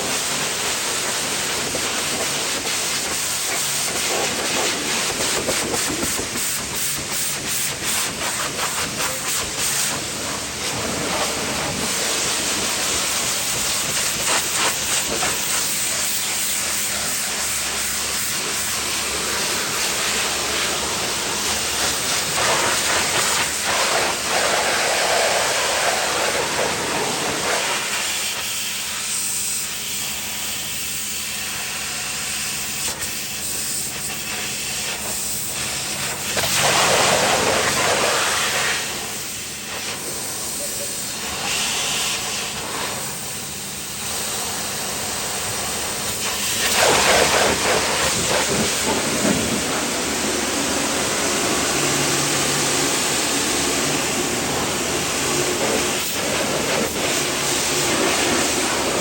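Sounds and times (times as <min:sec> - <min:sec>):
pressure washer spray hissing: 0:00.0 - 0:59.0.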